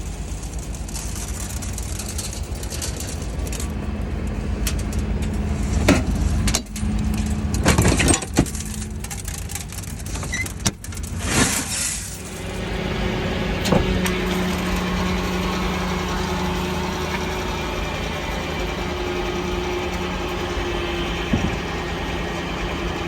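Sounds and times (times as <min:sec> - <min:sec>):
diesel engine humming: 0:00.0 - 0:23.0
clunks and rattles: 0:00.4 - 0:23.0.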